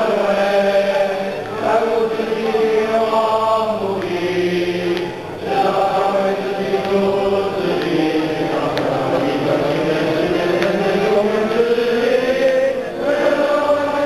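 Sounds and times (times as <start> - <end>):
men singing a hymn: 0.0 - 14.0.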